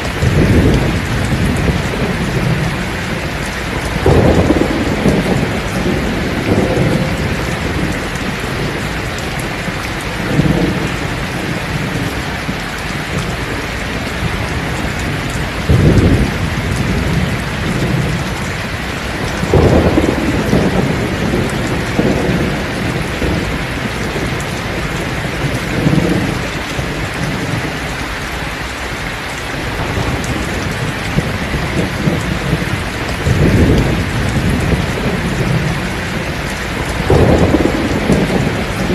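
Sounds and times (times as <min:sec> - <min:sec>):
thunder rolling: 0:00.0 - 0:27.9, 0:29.6 - 0:38.9
heavy rain on thatched roof: 0:00.0 - 0:38.9.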